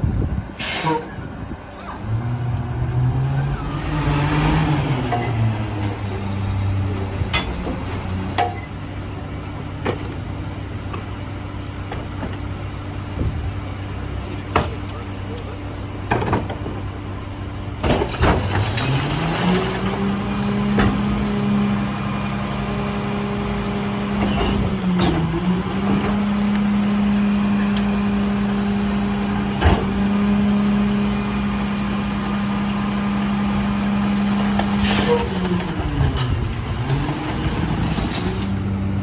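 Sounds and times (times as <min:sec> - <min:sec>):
diesel engine revving: 0:00.0 - 0:39.0.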